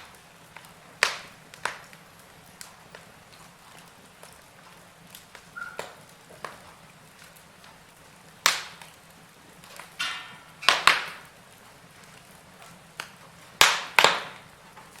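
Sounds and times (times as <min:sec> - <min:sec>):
fire crackles and pops: 0:00.0 - 0:15.0
fire hissing: 0:00.0 - 0:15.0
sharp fire cracks: 0:00.0 - 0:15.0.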